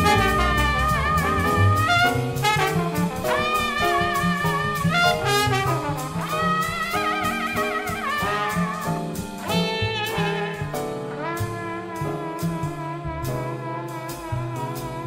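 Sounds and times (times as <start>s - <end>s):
bass line: 0.0s - 15.0s
big band swing horns: 0.0s - 15.0s.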